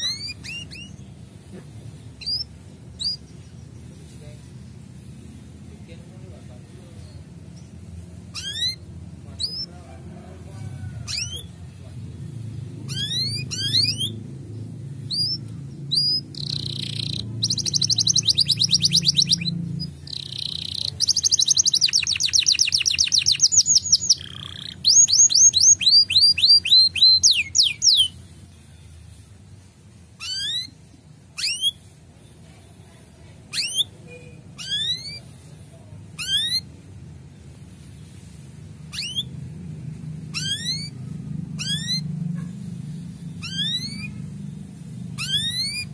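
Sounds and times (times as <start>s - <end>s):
canary chirping and trilling: 0.0s - 9.8s, 10.6s - 45.9s.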